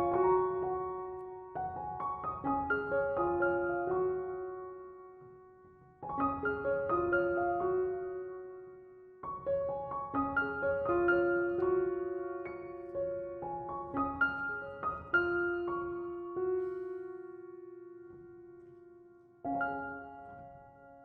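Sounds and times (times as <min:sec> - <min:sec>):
gentle solo piano: 0:00.0 - 0:21.0.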